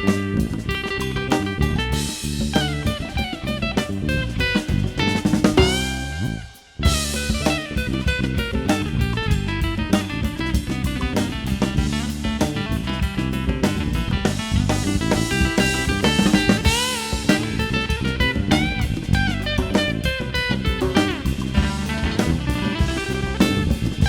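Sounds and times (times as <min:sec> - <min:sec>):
drum kit beat: 0:00.0 - 0:24.0
electric guitar: 0:00.0 - 0:24.0
live band playing: 0:00.0 - 0:24.0.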